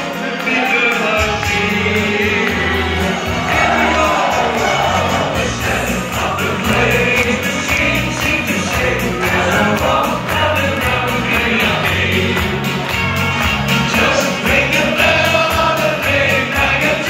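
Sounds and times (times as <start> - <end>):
man singing into a microphone: 0.0 - 12.6, 13.9 - 17.0
audience clapping in time: 0.0 - 17.0
audience singing along: 0.0 - 17.0
loud amplified music: 0.0 - 17.0.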